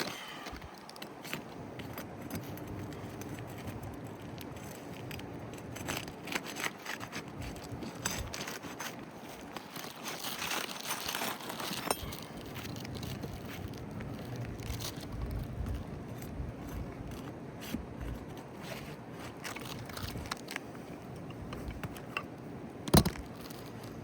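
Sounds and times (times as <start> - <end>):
tool prying up roof shingles: 0.0 - 24.0.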